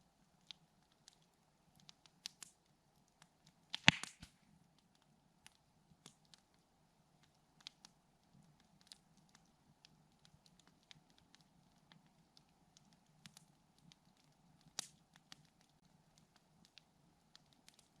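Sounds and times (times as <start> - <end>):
campfire crackling and popping: 0.2 - 18.0.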